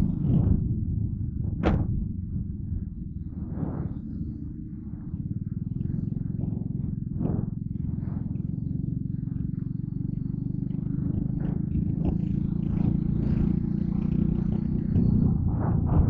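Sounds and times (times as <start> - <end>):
small motorcycle engine running: 0.0 - 1.3, 2.5 - 16.0
rattles or wind buffets: 0.0 - 16.0.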